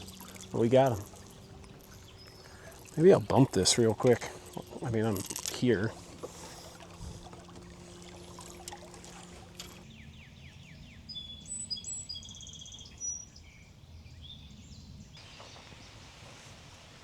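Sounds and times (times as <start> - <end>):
songbirds chirping and whistling: 0.0 - 16.8.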